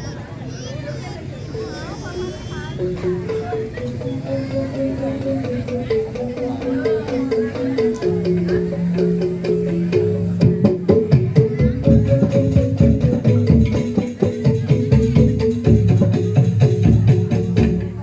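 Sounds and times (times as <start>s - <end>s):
instrumental music with percussion: 1.2s - 18.0s.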